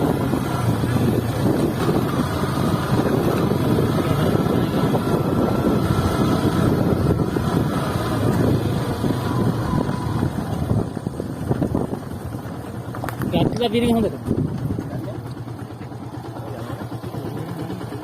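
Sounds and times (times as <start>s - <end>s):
wind buffeting microphone: 0.0s - 15.5s
motorcycle running: 0.0s - 18.0s.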